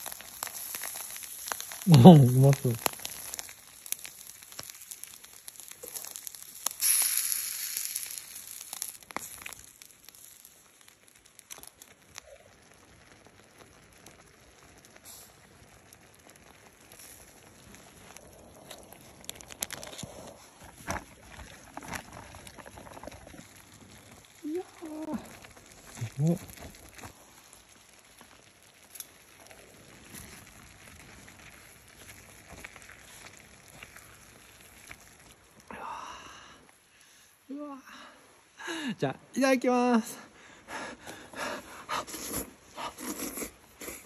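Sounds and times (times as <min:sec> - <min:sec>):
crackling: 0:00.0 - 0:44.0
food sizzling on a grill: 0:00.0 - 0:44.0.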